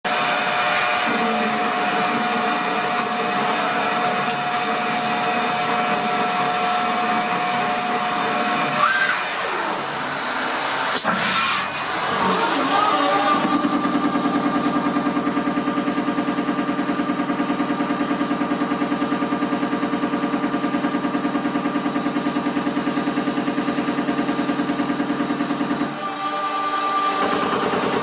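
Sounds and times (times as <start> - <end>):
lathe running with whine: 0.0 - 28.0.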